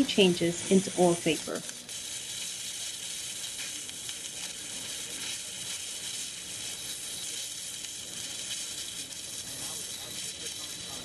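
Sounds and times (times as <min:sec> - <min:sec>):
gas venting hiss with crackles: 0:00.0 - 0:11.0.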